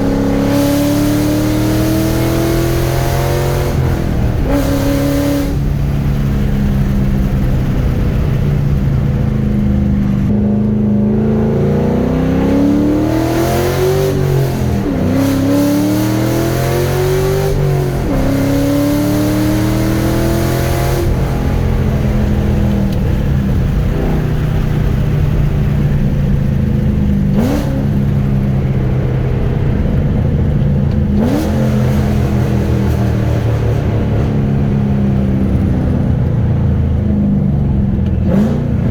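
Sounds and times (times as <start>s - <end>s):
engine accelerating through gears: 0.0s - 38.9s
engine throttle blips: 0.0s - 38.9s.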